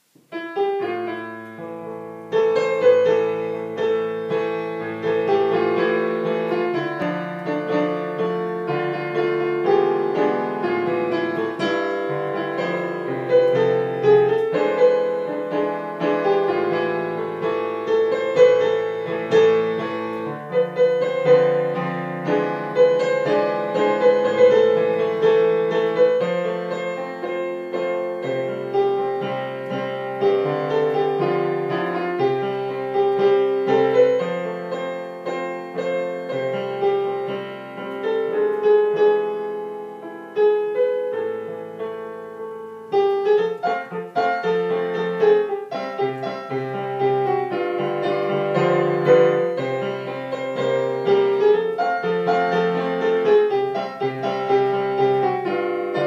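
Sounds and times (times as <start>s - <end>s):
digital piano playing: 0.0s - 56.0s.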